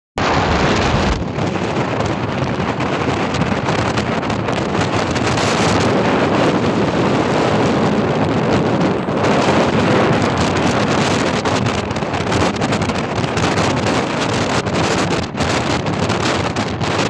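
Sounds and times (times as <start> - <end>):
wind buffeting microphone: 0.2 - 17.0.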